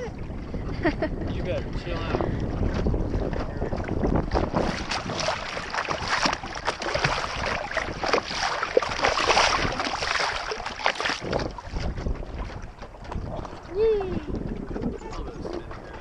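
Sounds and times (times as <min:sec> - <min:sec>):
water splashing against hull: 0:00.0 - 0:16.0.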